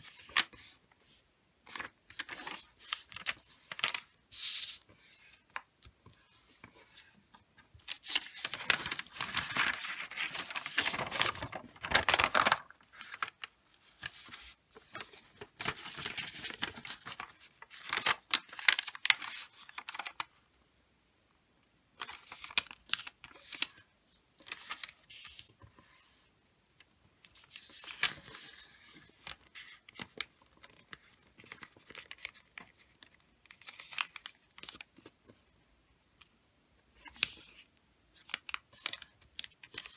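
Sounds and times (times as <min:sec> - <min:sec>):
paper rustling and crinkling: 0:00.0 - 0:20.3, 0:22.0 - 0:26.2, 0:27.2 - 0:35.5, 0:37.0 - 0:39.9.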